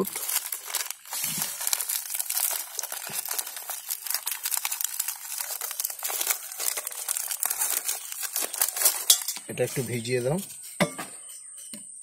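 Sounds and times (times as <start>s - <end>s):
plastic wrappers crinkling and tearing: 0.0s - 10.4s.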